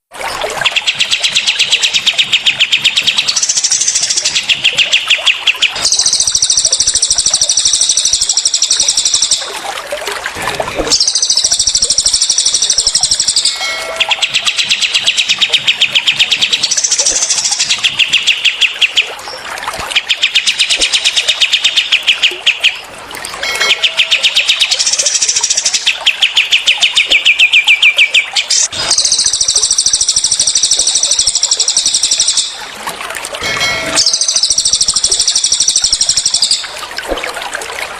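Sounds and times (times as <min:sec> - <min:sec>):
birds singing rattling trills: 0:00.6 - 0:09.5, 0:10.9 - 0:32.6, 0:33.7 - 0:36.8.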